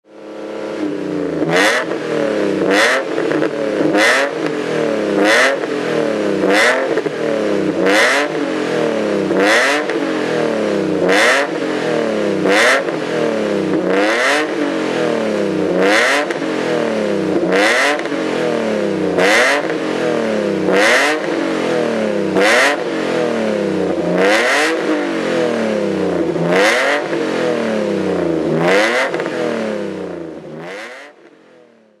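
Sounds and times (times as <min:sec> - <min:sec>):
car engine revving: 0:00.2 - 0:32.0.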